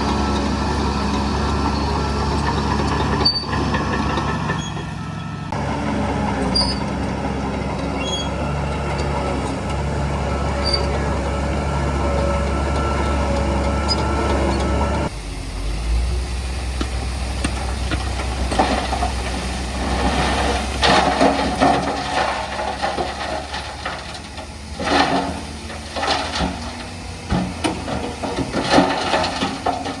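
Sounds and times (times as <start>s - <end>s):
rattling and scraping: 0.0s - 15.1s, 17.4s - 30.0s
heavy machinery diesel engine: 0.0s - 30.0s.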